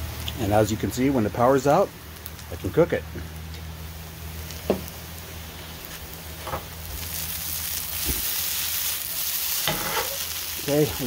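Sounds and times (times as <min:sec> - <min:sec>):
potatoes sizzling in a pan: 0:00.0 - 0:11.0.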